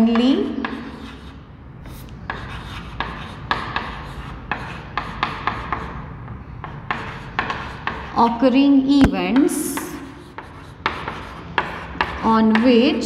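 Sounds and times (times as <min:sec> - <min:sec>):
chalk scratching on chalkboard: 0:00.6 - 0:08.4, 0:09.5 - 0:12.8.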